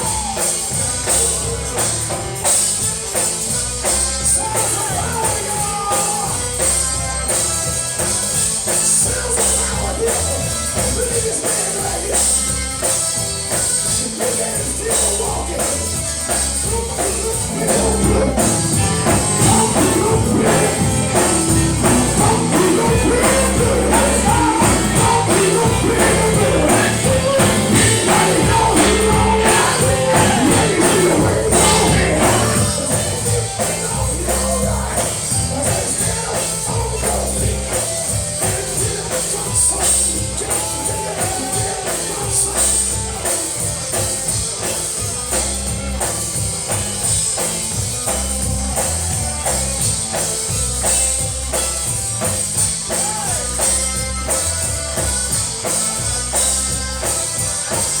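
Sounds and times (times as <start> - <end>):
people singing: 0.0 - 45.4, 52.9 - 54.0
gospel band playing: 0.0 - 58.0
tambourine shaking: 0.0 - 58.0.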